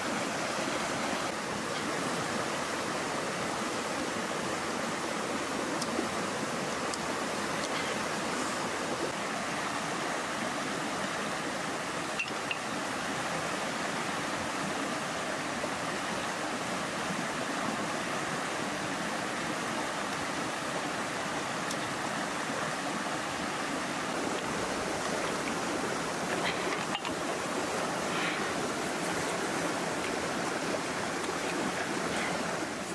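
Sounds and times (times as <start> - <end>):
river rapids rushing over rocks: 0.0 - 32.9.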